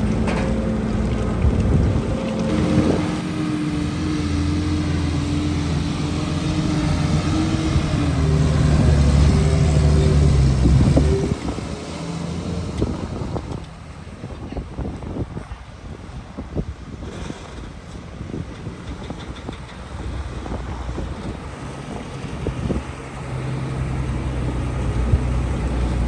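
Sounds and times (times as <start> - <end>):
heavy diesel engine working: 0.0 - 26.0.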